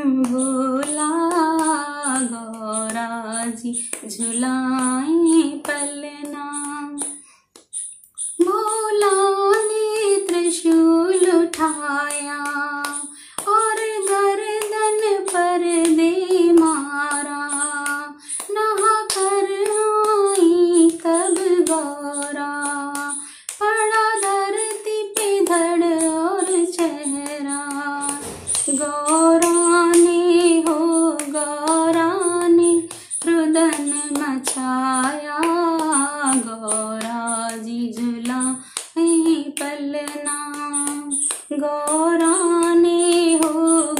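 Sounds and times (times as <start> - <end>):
woman singing: 0.0 - 7.2, 8.2 - 43.9.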